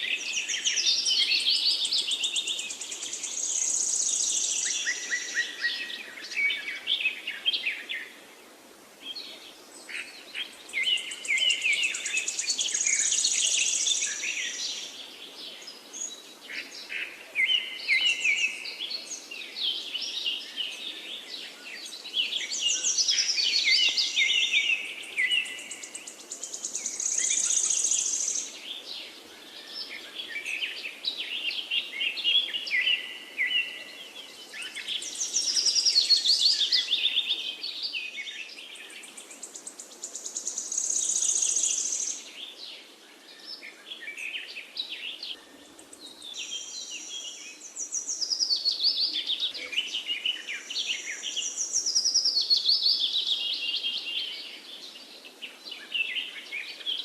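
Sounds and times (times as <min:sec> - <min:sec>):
faint background hiss: 0:00.0 - 0:57.0
songbirds chirping and trilling: 0:00.0 - 0:57.0.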